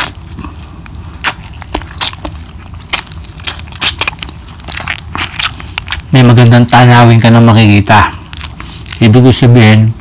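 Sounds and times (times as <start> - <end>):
person chewing food: 0.0 - 7.3, 7.9 - 9.4.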